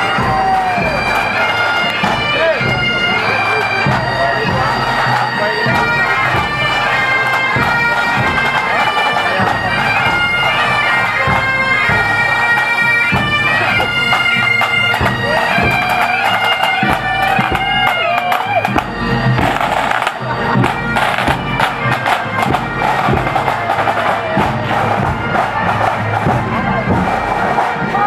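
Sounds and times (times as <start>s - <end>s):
bagpipe band playing: 0.0s - 28.0s
drum beats: 0.0s - 28.0s.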